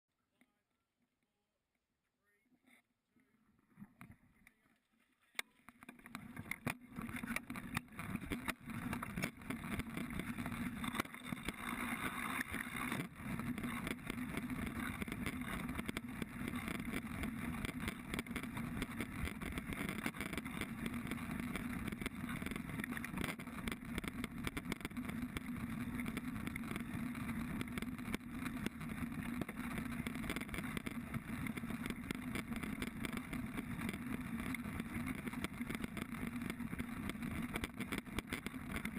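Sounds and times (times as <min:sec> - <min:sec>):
wind: 0:00.1 - 0:38.9
bike rattling and knocking: 0:05.7 - 0:38.9
bike tyres rumbling on dirt: 0:05.7 - 0:38.9.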